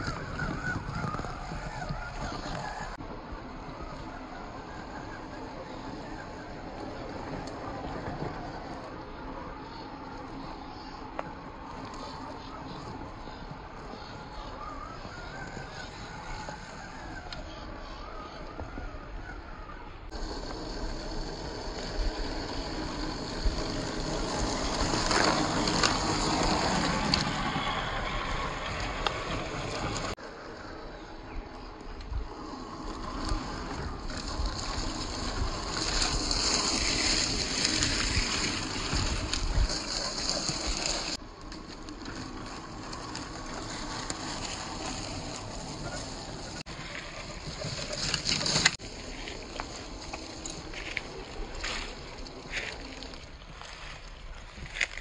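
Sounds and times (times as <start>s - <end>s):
tires crunching over rocks and leaves: 0.0s - 55.0s.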